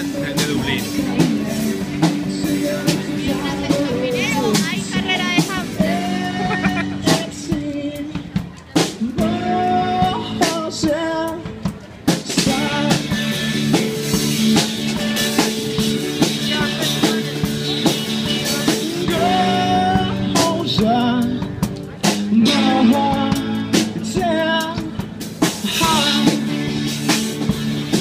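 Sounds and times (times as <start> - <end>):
drum beat: 0.0 - 11.0, 11.6 - 28.0
person singing: 0.0 - 11.6, 12.2 - 13.8, 16.0 - 26.8
guitar: 0.0 - 28.0.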